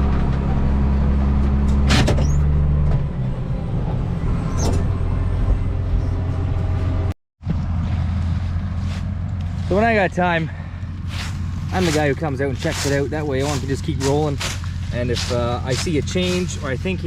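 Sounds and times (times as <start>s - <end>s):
combine harvester engine hum: 0.0s - 17.0s.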